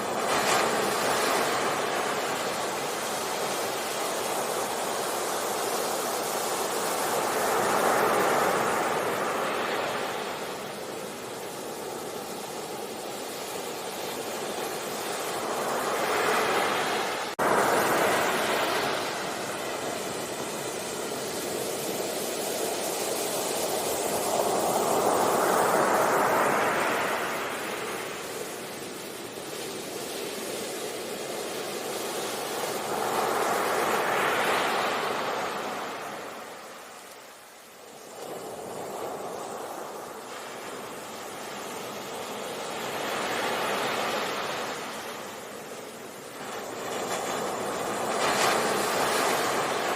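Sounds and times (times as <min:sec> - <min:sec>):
sea waves breaking on a beach: 0:00.0 - 0:49.9.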